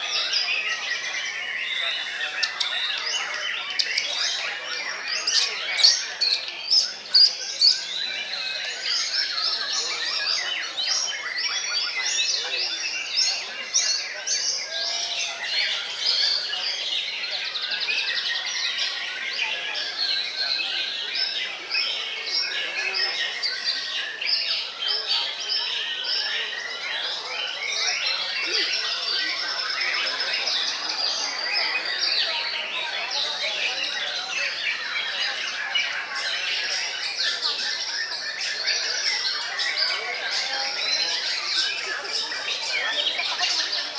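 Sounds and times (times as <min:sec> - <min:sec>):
chorus of birds whistling: 0:00.0 - 0:43.9.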